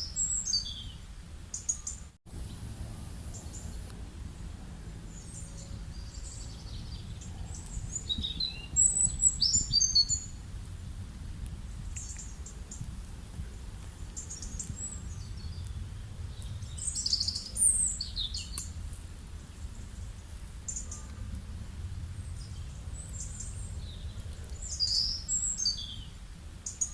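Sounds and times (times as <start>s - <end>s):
songbirds chirping: 0.0s - 26.9s
steady low rumble: 2.3s - 26.8s.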